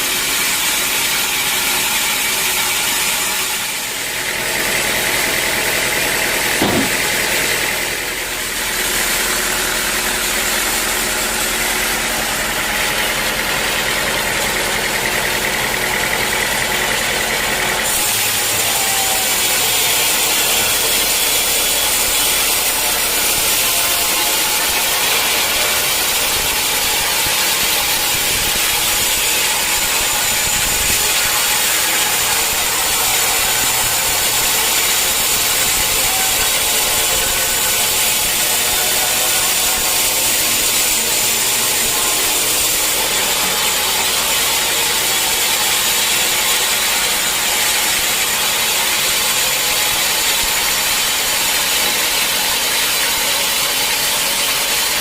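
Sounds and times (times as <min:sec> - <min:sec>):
machinery hum: 0:00.0 - 0:54.0
saw blade cutting log: 0:00.0 - 0:55.0.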